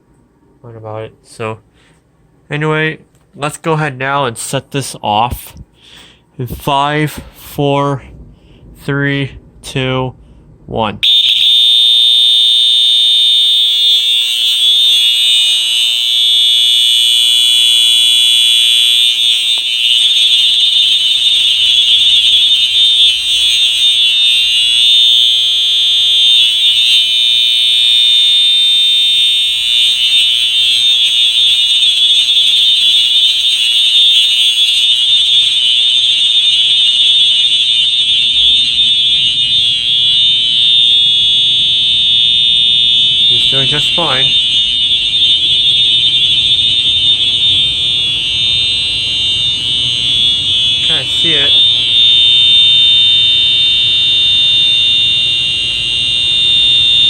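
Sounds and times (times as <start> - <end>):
fire alarm horn continuous tone: 11.0 - 57.0.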